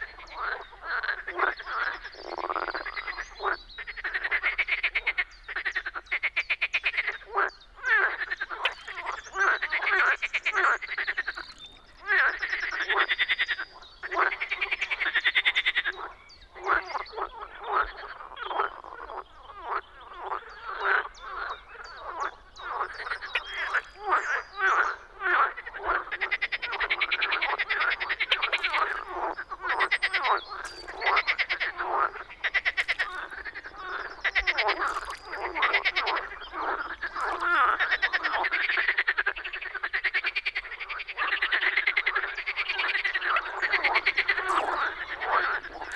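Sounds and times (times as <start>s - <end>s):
frogs calling: 0.0s - 45.9s.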